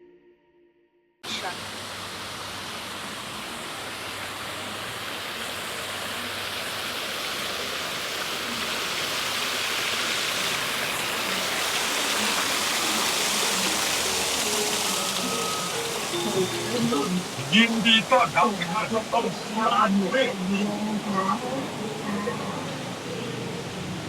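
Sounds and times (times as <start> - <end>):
running water rushing: 1.2 - 24.0.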